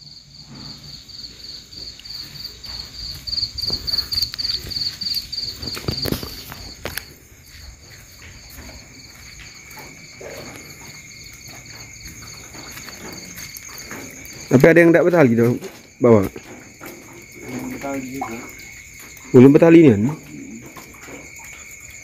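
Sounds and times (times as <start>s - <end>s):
cricket trill: 0.0s - 22.0s
steady insect tone: 0.0s - 22.0s.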